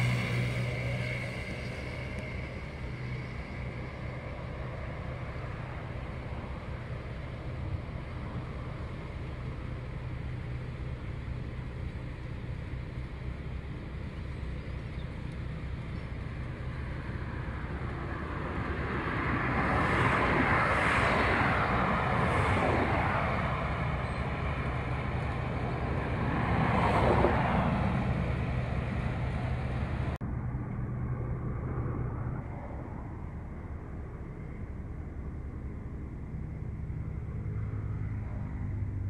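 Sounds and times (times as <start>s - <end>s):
road traffic passing: 0.0s - 39.0s.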